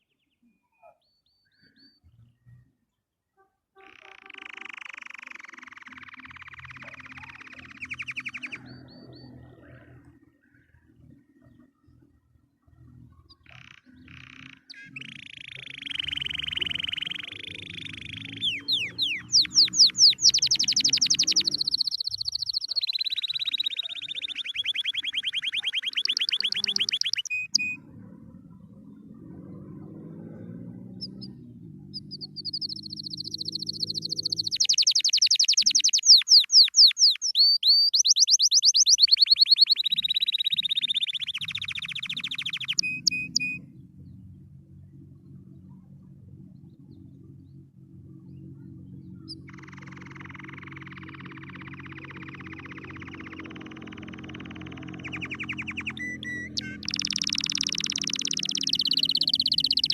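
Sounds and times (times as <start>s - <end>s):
canary singing trills: 0.0s - 2.7s, 3.4s - 47.6s, 48.2s - 59.9s.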